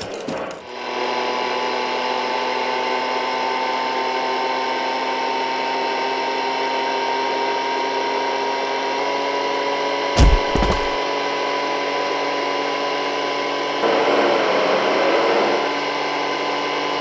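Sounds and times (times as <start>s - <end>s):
engine at high revs whining: 0.0s - 17.0s.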